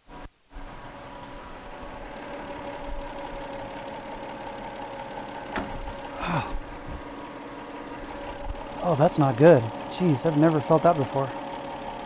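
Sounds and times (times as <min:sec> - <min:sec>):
car engine idling: 0:00.7 - 0:12.0.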